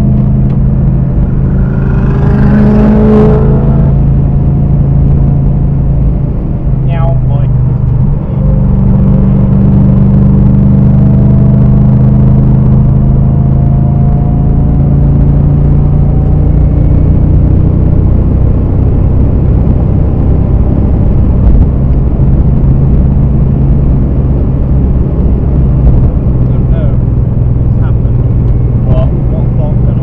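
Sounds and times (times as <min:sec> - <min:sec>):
car engine running hard: 0:00.0 - 0:30.0.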